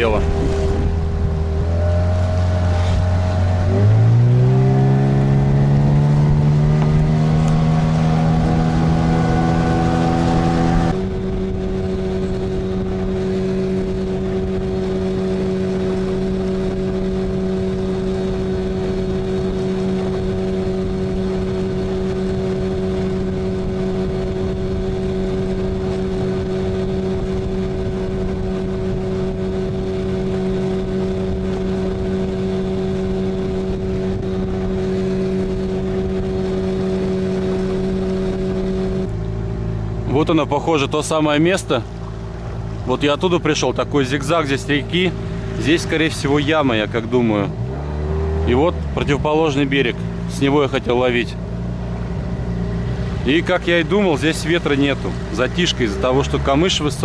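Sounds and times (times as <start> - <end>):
outboard motor droning: 0.0 - 57.0.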